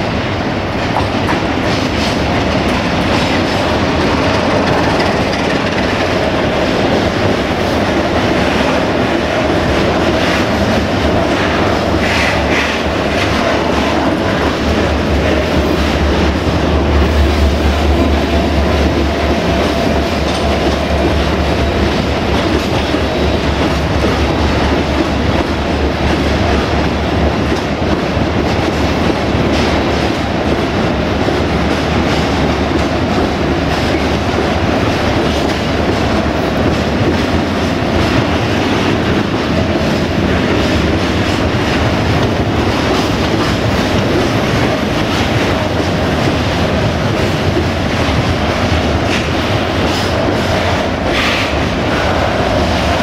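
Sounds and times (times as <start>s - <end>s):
train wheels clattering over rail joints: 0.7s - 53.0s.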